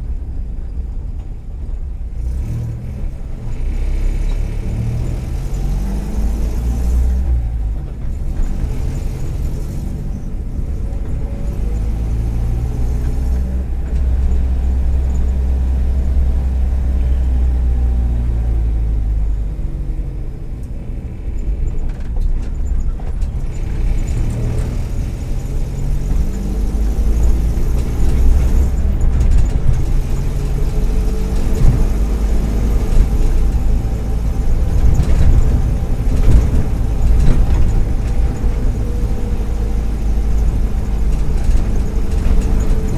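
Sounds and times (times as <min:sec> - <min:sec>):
van engine running: 0:00.0 - 0:42.9.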